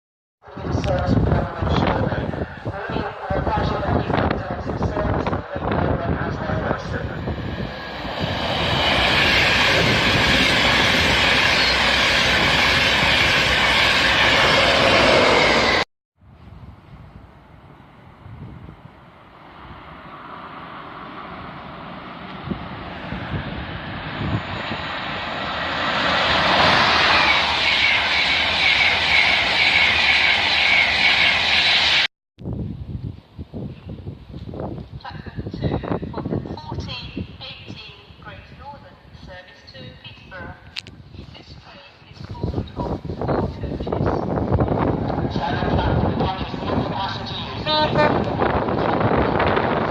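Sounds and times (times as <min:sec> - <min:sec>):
train passing at speed: 0:00.5 - 0:32.1, 0:35.5 - 0:49.9.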